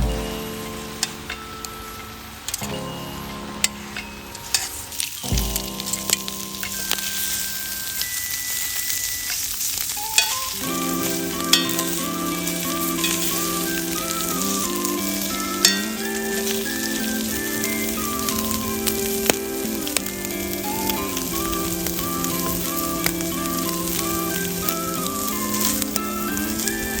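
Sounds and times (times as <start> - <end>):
background music: 0.0 - 27.0
fire crackling: 0.0 - 27.0
food sizzling on griddle: 0.0 - 27.0.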